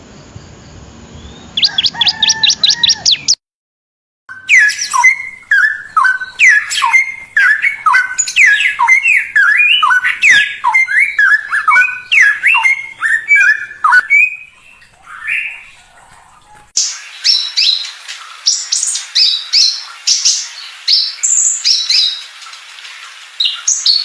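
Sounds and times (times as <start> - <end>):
songbird singing: 0.4 - 3.4, 4.3 - 24.0.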